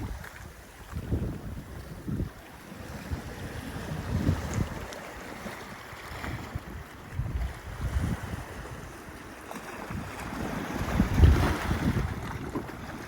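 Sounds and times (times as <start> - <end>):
waves washing on shore: 0.0 - 13.0
wind buffeting microphone: 0.0 - 13.0.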